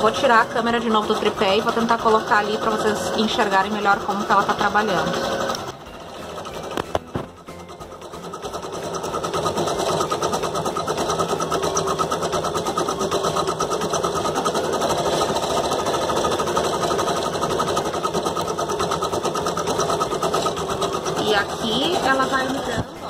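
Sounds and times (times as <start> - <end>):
embroidery machine stitching: 0.0 - 23.0.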